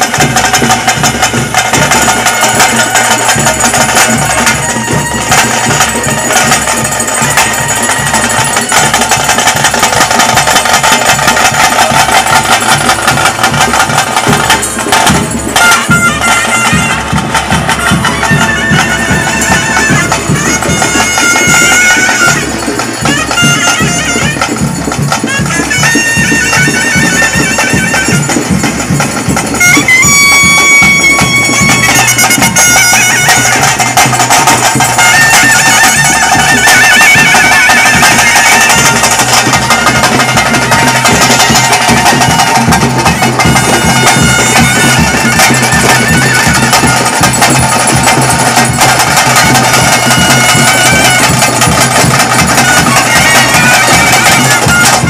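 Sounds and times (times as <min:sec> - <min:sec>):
drums beating steady rhythm: 0:00.0 - 0:55.0
wind pipe melody: 0:00.0 - 0:55.0.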